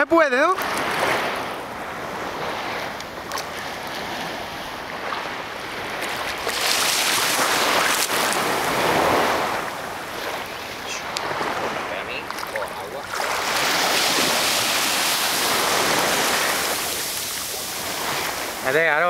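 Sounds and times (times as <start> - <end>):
small waves lapping: 0.4 - 19.0.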